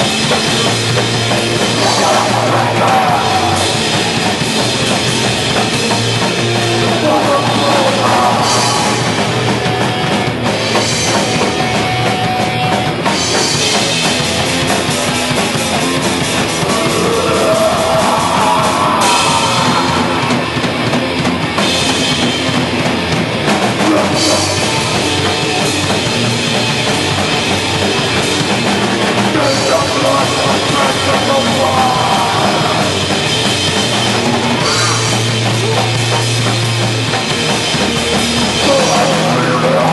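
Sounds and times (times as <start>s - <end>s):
punk band playing: 0.0s - 39.9s.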